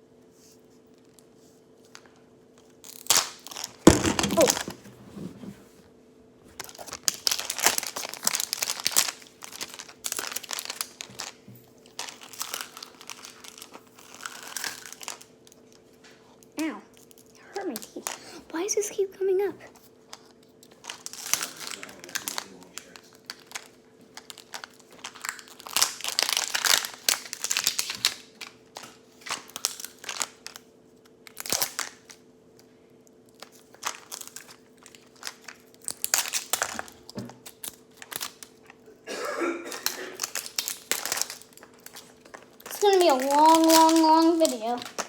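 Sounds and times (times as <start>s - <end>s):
plastic wrapping crinkling and tearing: 1.8s - 4.9s, 6.5s - 18.3s, 19.8s - 38.8s, 39.8s - 45.0s.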